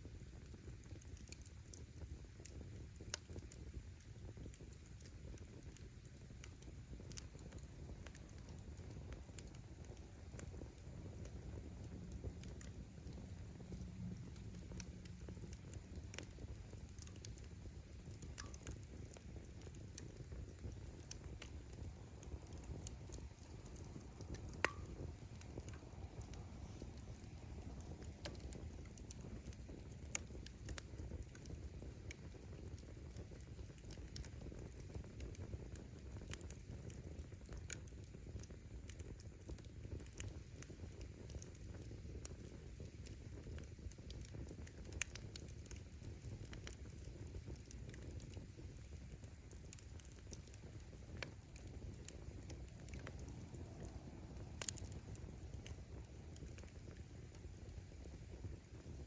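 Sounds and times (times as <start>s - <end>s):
fire flames rumbling: 0.0s - 59.0s
firewood crackling: 0.1s - 59.0s.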